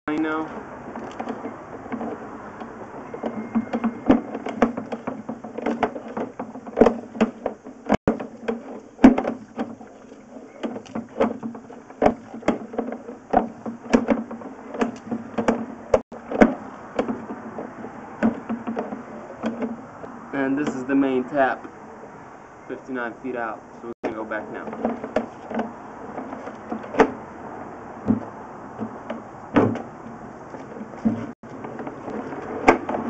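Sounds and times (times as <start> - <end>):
cable clicking and knocking: 0.1 - 20.9, 24.0 - 27.2, 28.0 - 33.0.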